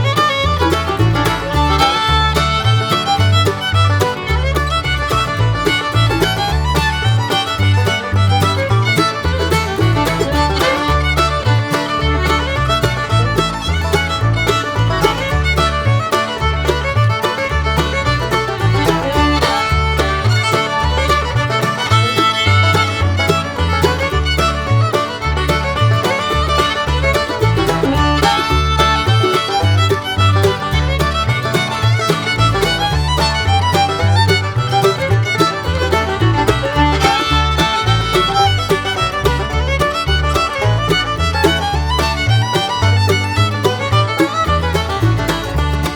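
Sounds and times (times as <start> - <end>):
lively fiddle tune: 0.0 - 45.9
pulsing bass line: 0.0 - 45.9.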